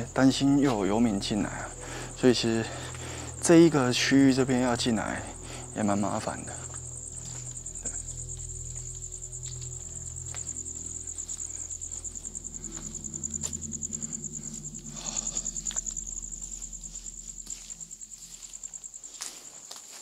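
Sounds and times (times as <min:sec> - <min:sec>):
low hum: 0:00.0 - 0:19.4
night insects trilling: 0:00.0 - 0:20.0.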